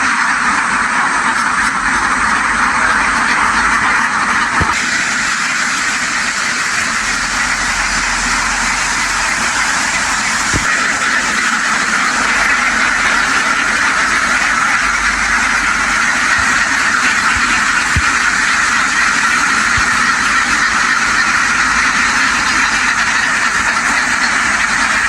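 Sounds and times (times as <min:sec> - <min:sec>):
flock of ducks quacking: 0:00.0 - 0:25.0.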